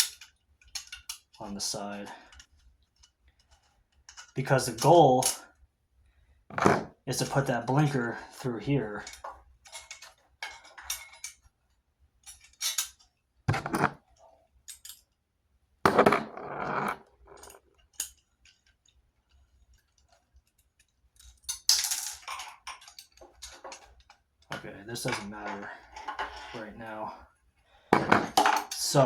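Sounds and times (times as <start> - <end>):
metal tools clinking and rattling: 0.0 - 5.4, 6.5 - 11.5, 12.2 - 14.0, 14.6 - 15.1, 15.9 - 27.0, 28.0 - 29.0.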